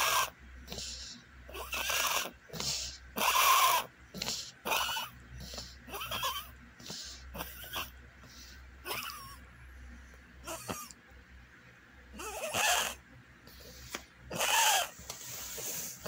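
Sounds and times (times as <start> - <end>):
small dog wheezing: 0.0 - 9.4, 10.4 - 10.9, 12.2 - 16.0.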